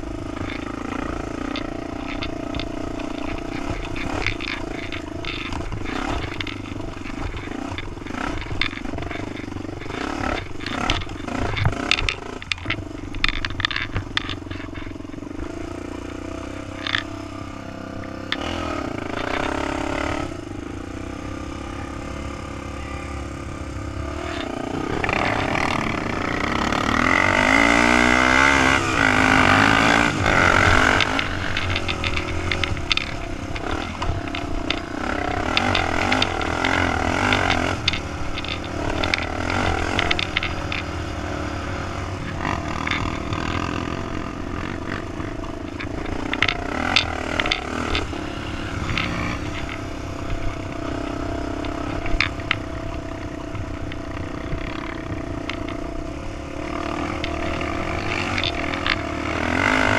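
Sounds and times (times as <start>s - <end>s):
clicks and rattles over ruts: 0.0s - 59.9s
quad engine revving: 0.0s - 59.9s.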